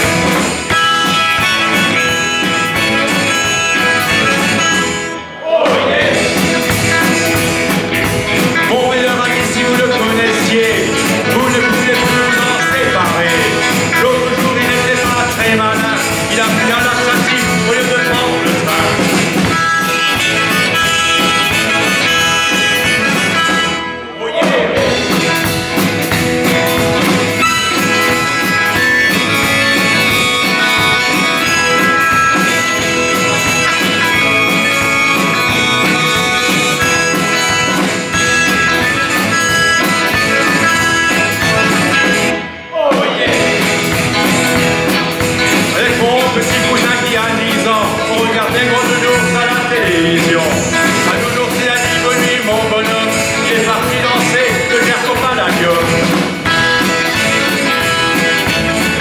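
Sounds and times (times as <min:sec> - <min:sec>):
bass guitar: 0:00.0 - 0:59.0
drums: 0:00.0 - 0:59.0
electric guitar: 0:00.0 - 0:59.0
harmonica: 0:00.0 - 0:59.0.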